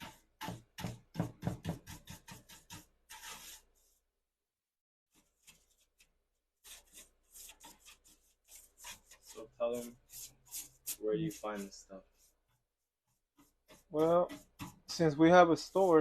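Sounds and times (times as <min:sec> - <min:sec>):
rubbing strokes: 0:00.0 - 0:04.0, 0:05.1 - 0:16.0.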